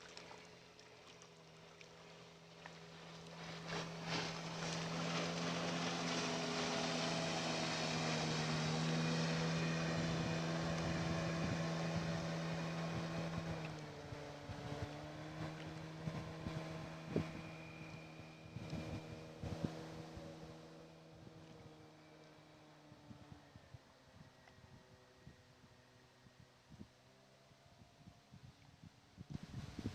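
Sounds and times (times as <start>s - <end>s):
outboard motor running: 0.0s - 27.2s.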